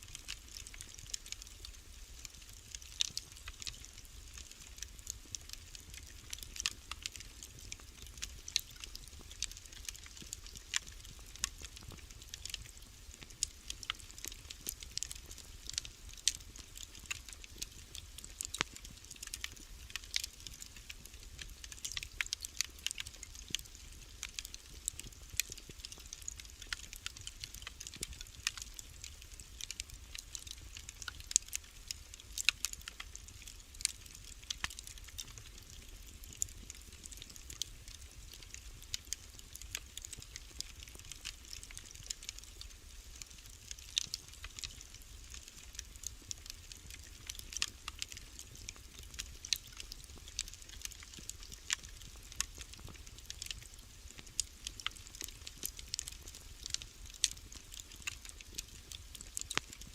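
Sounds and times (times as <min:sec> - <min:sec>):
soft hiss: 0:00.0 - 0:59.9
wood fire crackling: 0:00.0 - 0:59.9.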